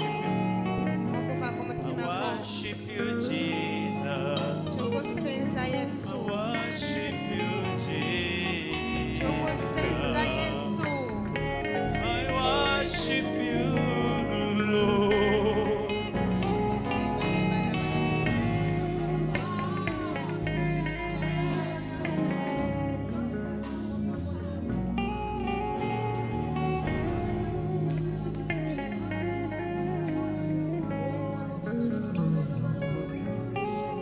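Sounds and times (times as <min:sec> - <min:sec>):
guitar melody: 0:00.0 - 0:34.0
instrumental worship band music: 0:00.0 - 0:34.0
bass line: 0:02.9 - 0:34.0.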